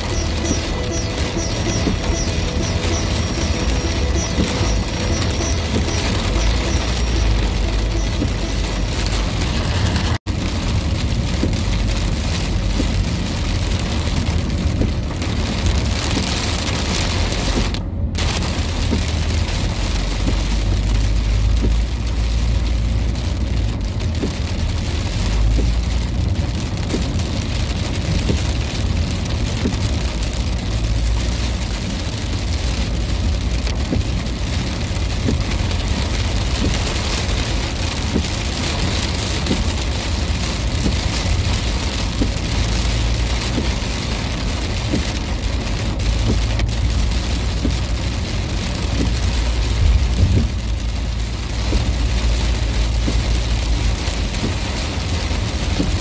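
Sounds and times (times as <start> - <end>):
car and tyres rumbling on wet road: 0.0 - 56.0
heavy rain on a car: 0.0 - 56.0.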